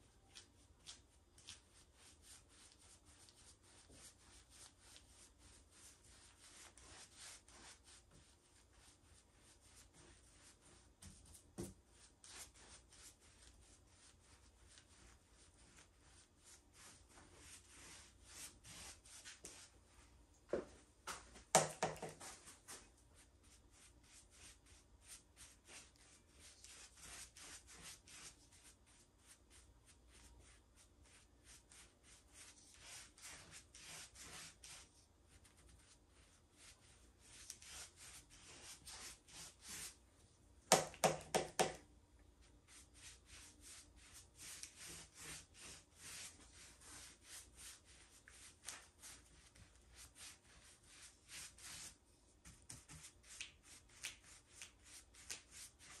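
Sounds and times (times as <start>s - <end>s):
paintbrush swishing: 0.1s - 20.1s, 21.1s - 40.0s, 42.4s - 56.0s.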